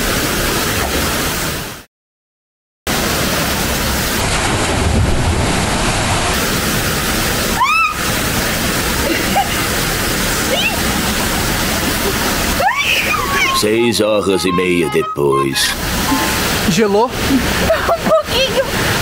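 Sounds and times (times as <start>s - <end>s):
waterfall pouring into a pool: 0.0s - 1.9s, 2.9s - 19.0s.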